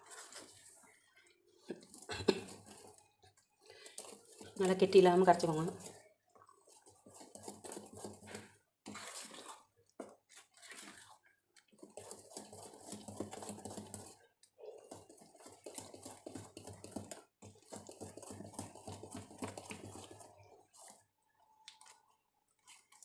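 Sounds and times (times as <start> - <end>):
whisk scraping metal bowl: 0.0 - 21.2.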